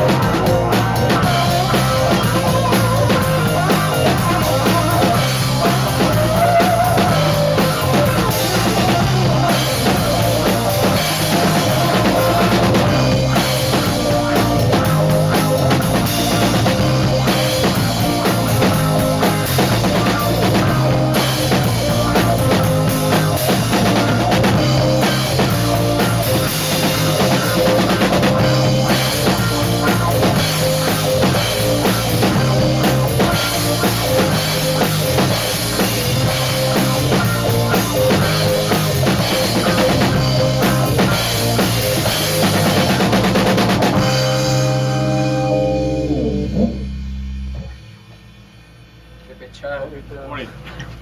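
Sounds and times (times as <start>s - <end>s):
rock band playing live: 0.0s - 47.8s.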